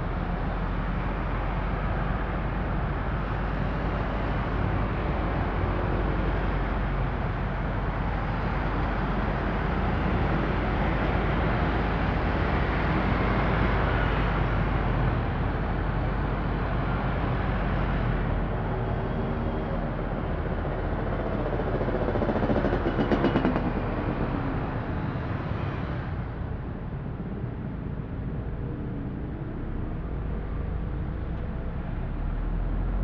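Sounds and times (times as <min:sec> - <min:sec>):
city traffic noise: 0:00.0 - 0:33.0.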